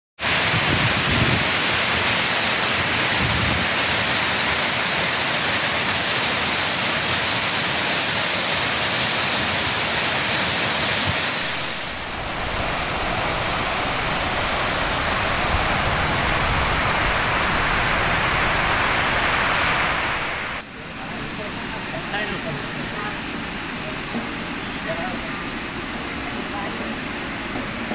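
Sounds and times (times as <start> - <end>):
water rushing over dam: 0.2 - 27.9.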